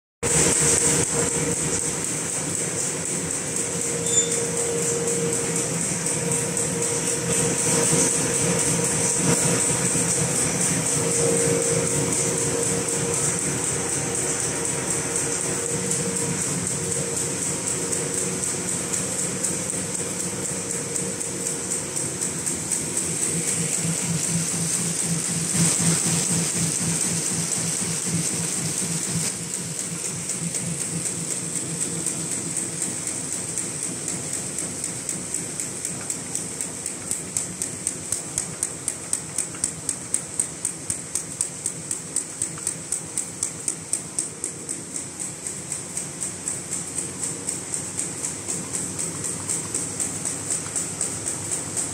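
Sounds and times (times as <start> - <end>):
paper bag machine humming: 0.2 - 51.9
fast regular mechanical clacking: 0.3 - 51.9.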